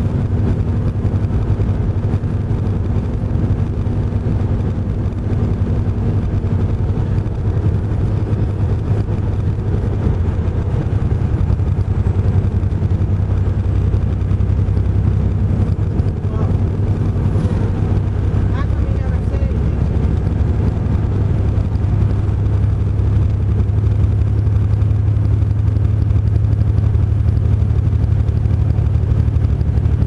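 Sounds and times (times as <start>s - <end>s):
truck engine and road noise: 0.0s - 30.0s.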